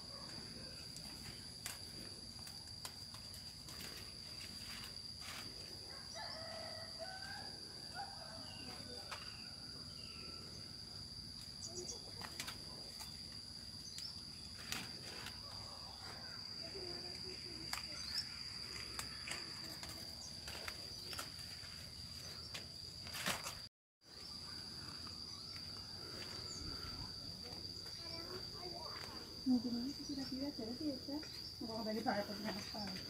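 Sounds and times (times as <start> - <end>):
high-pitched insect drone: 0.0 - 23.0, 24.1 - 33.0
faint rustling of leaves: 0.0 - 33.0.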